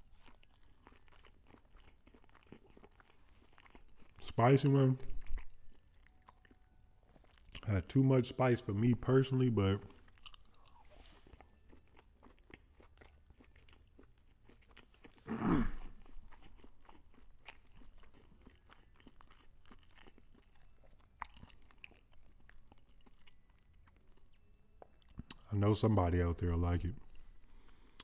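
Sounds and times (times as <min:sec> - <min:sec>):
chewing crispy chicken: 0:00.0 - 0:28.0.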